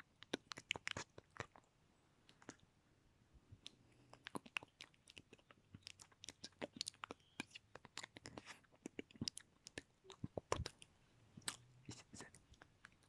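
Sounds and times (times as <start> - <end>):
wet lip and tongue clicks: 0.0 - 2.6, 3.6 - 13.0.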